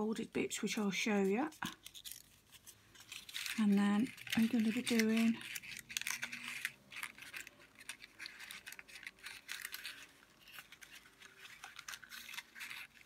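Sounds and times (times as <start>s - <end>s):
paper rustling and crinkling: 1.1s - 13.0s.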